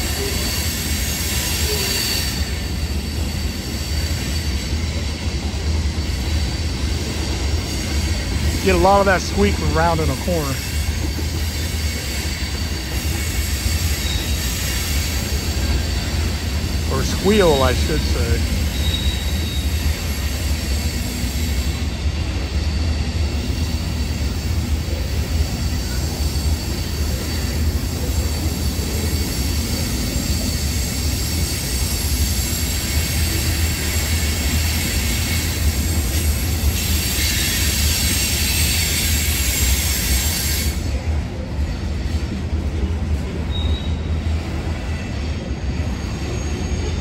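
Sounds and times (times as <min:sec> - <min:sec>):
freight train rumbling past: 0:00.0 - 0:47.0
train wheels squealing: 0:00.0 - 0:47.0.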